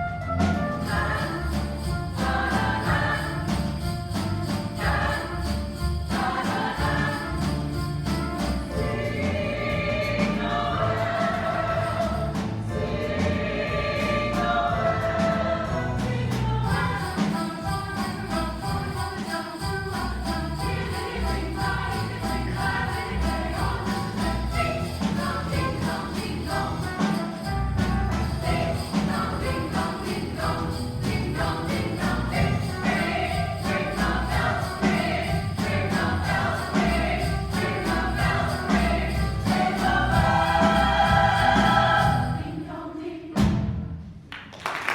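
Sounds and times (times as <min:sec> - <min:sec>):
choir singing: 0:00.1 - 0:43.7
jingle bells shaken: 0:00.6 - 0:42.6.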